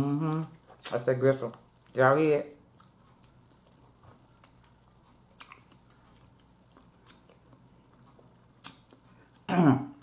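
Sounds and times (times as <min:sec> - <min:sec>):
chewing and gnawing: 0:00.1 - 0:09.5.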